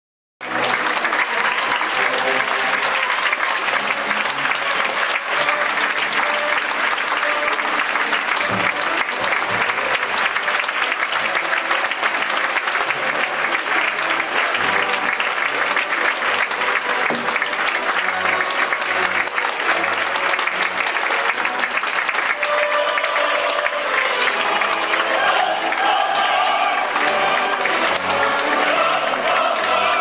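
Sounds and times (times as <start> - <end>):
audience applauding: 0.4 - 30.0.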